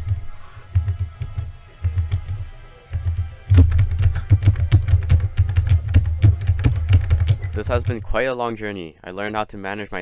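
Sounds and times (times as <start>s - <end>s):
key switches clicking: 0.0s - 8.0s.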